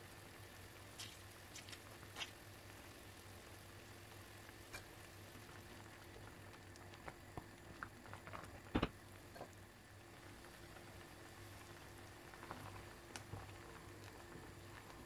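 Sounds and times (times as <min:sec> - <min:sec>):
syrup bubbling in a pot: 0:00.0 - 0:15.0.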